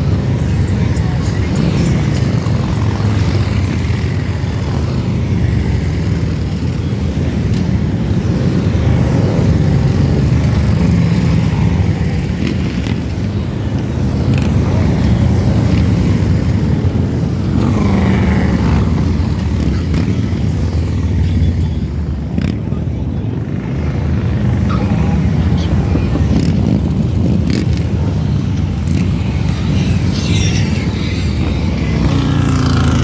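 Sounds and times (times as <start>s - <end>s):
motorcycle engines rumbling: 0.0s - 33.0s.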